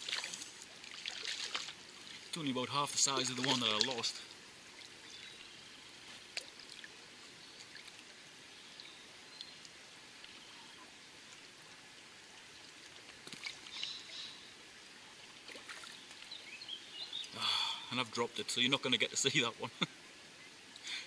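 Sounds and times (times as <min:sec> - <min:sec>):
rustle: 0:00.0 - 0:21.0
shallow river over stones: 0:00.0 - 0:21.0.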